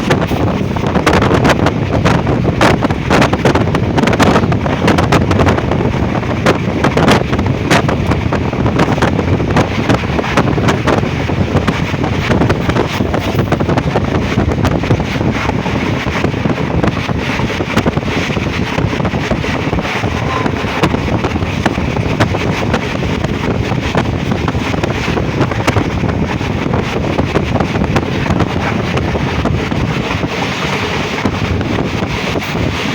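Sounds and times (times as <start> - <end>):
train wheels rumbling on track: 0.0 - 32.9
wind buffeting microphone: 0.0 - 32.9.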